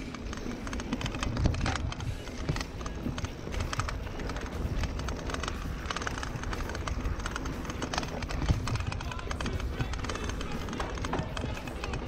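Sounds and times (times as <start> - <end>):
bike rattling: 0.0 - 12.0
wind rumble on camera: 0.0 - 12.0.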